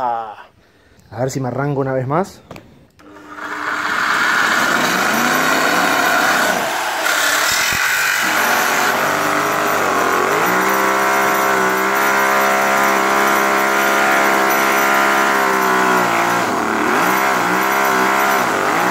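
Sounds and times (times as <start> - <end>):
miniature engine starting and running: 3.0 - 18.9.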